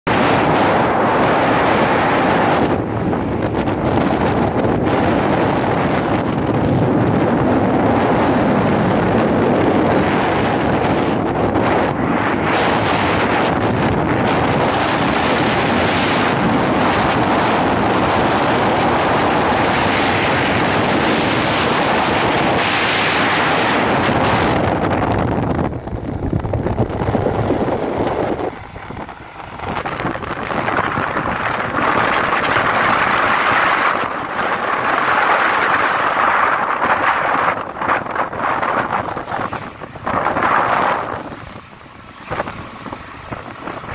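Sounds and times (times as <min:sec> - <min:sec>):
moving vehicle on road: 0:00.0 - 0:43.9
wind buffeting microphone: 0:00.1 - 0:43.9.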